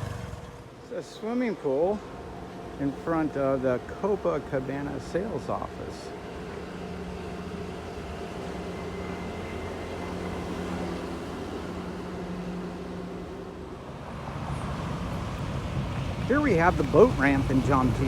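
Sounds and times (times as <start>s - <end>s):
motor vehicle engine humming: 0.0s - 18.0s.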